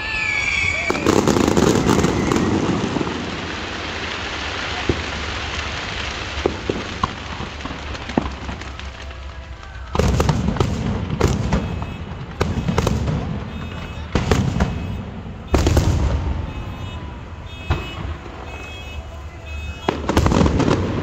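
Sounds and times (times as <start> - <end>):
firework bangs: 0.0 - 21.0
fireworks crackling fizz: 0.0 - 21.0
firework pops: 0.2 - 21.0.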